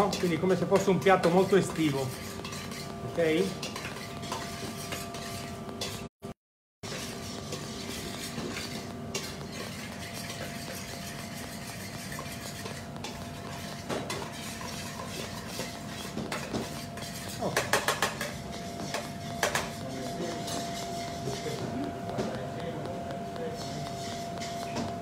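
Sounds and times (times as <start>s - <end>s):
metal spoon scraping a steel bowl: 0.0s - 6.1s, 6.8s - 25.0s
steady background hum: 0.0s - 6.1s, 6.9s - 25.0s.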